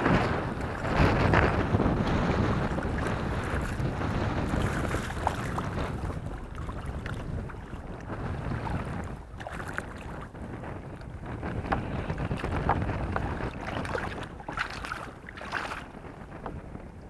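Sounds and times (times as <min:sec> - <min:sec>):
water moving around kayak: 0:00.0 - 0:17.0
wind buffeting microphone: 0:00.0 - 0:17.0.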